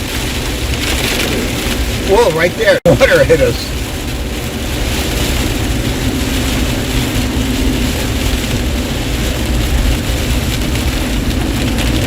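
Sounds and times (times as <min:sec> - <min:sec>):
low road rumble: 0:00.0 - 0:12.0
rain and tyre spray on car: 0:00.0 - 0:12.0.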